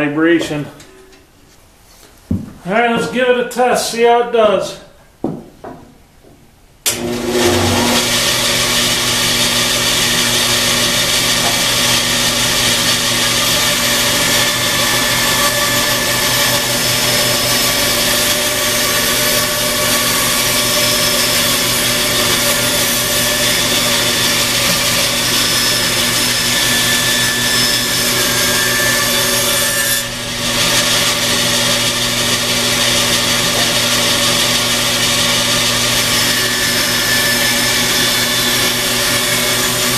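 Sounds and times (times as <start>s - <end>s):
bandsaw cutting a board: 6.9s - 39.9s
bandsaw motor hum: 6.9s - 39.9s.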